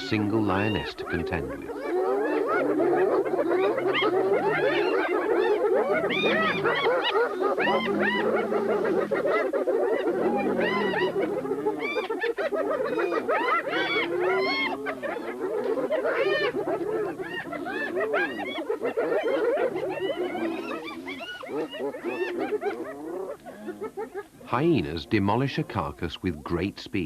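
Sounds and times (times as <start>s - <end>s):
hyenas yelping in chorus: 0.0s - 26.7s.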